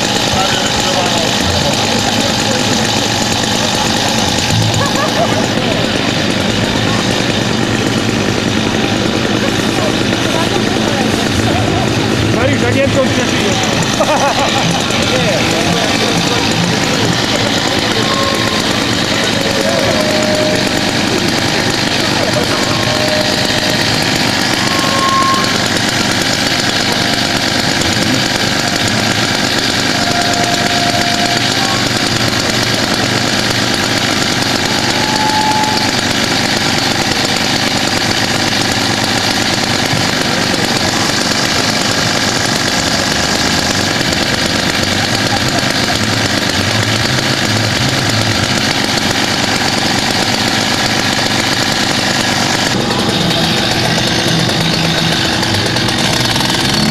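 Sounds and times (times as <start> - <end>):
small engine running steadily: 0.0 - 56.9.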